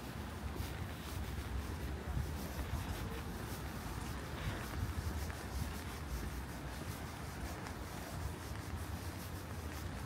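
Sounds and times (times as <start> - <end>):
soft scratchy patter: 0.0 - 10.0.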